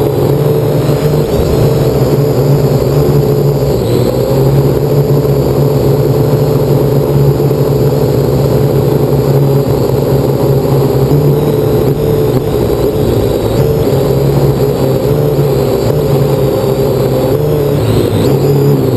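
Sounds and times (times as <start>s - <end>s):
drone propellers humming: 0.0s - 18.9s.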